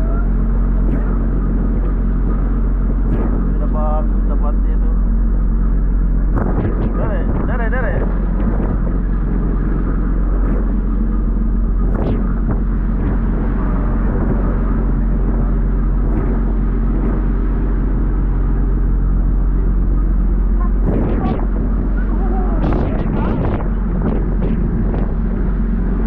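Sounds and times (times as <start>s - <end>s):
boat engine rumbling: 0.0s - 26.0s
churning sea water: 0.0s - 26.0s.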